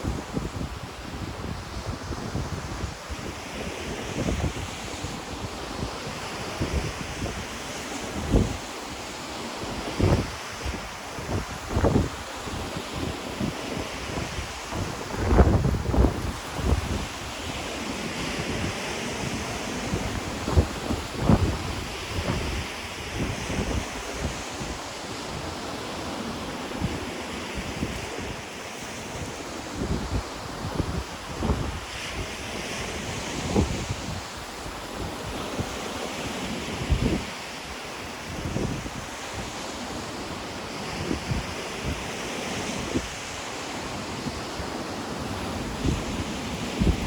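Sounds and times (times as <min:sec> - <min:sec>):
wind buffeting microphone: 0:00.0 - 0:08.8, 0:09.6 - 0:47.0
ocean waves washing onto shore: 0:00.0 - 0:47.0.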